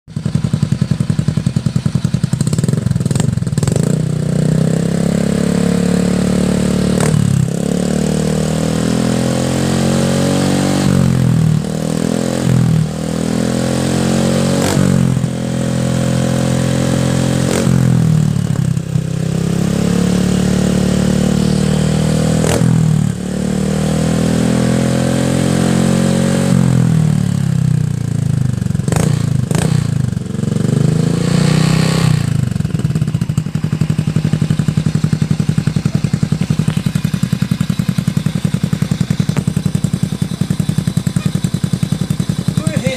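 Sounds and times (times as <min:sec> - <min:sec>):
motorcycle revving: 0:00.1 - 0:42.9.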